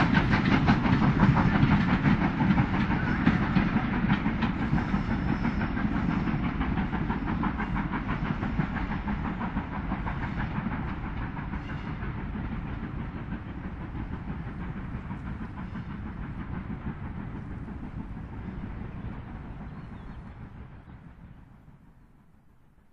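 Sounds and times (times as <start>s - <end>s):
rail noise: 0.0s - 22.9s
steam locomotive exhaust beats: 0.0s - 22.9s.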